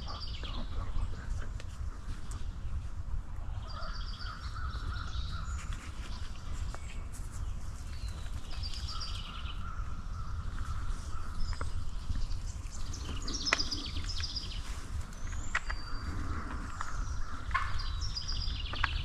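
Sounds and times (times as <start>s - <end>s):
birds chattering: 0.0s - 19.0s
steady low rumble: 0.0s - 19.0s.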